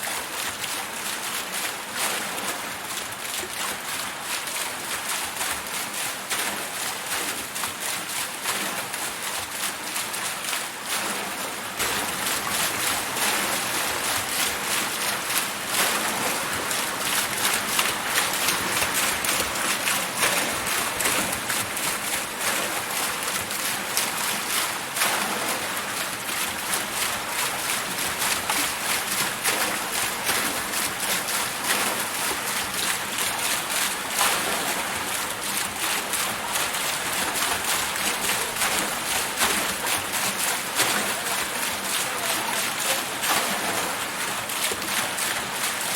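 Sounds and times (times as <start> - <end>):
water splashing off water wheel: 0.0 - 45.9.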